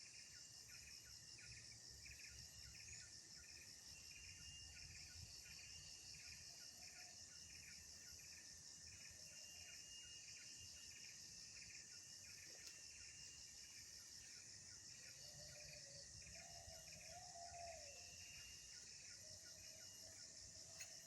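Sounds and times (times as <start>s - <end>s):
insects chirping chorus: 0.0s - 21.0s
faint wavering tone: 2.1s - 21.0s.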